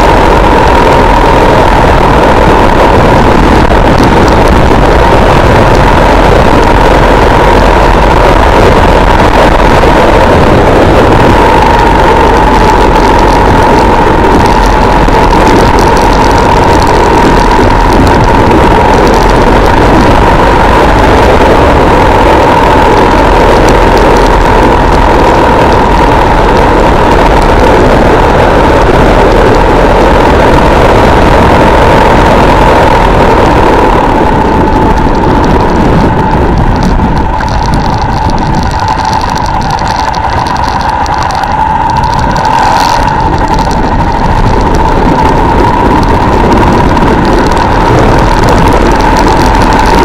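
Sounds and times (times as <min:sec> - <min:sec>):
motorcycle engine running: 0:00.0 - 0:50.0
wind and road noise: 0:00.0 - 0:50.0.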